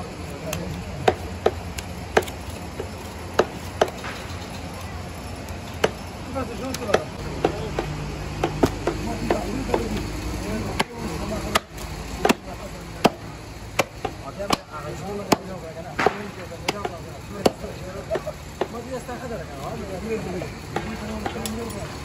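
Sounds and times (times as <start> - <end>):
cleaver chopping meat and bone: 0.0 - 19.1, 20.6 - 21.8.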